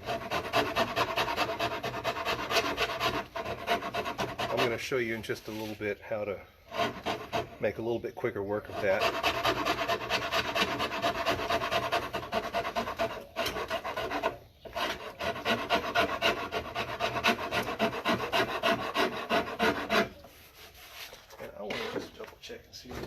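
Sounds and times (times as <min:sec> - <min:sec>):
hand rasp on wood: 0:00.0 - 0:05.6, 0:06.7 - 0:07.6, 0:08.6 - 0:20.9.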